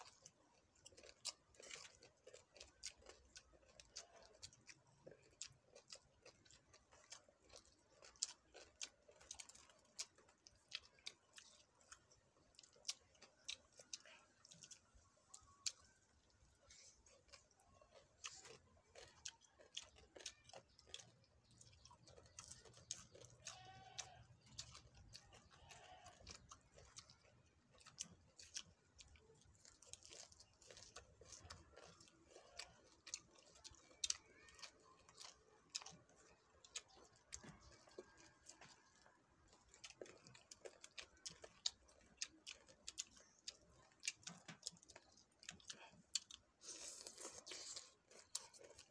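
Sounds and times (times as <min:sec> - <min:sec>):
people chewing and crunching: 0:00.0 - 0:48.9.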